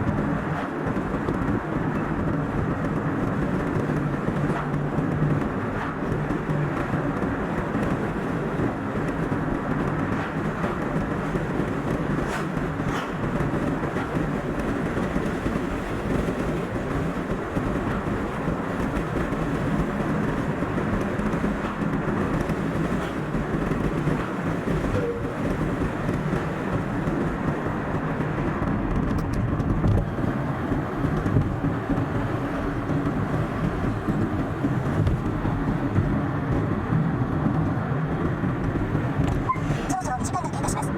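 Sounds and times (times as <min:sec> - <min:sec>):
car driving noise sped up: 0:00.1 - 0:40.9.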